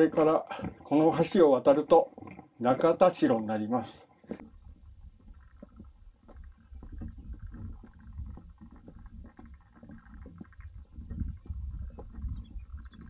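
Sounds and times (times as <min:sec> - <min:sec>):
footsteps on footbridge: 0:00.0 - 0:13.0.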